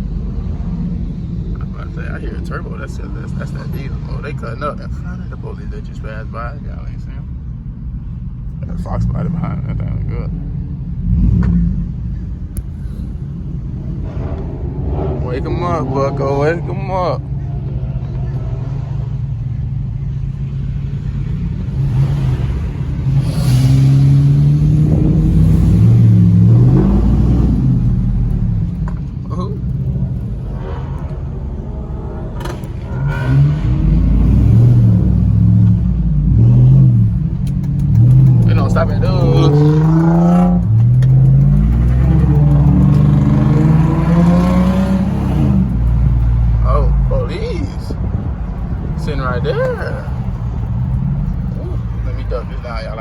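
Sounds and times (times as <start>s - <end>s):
vehicle engine accelerating: 8.2s - 53.0s.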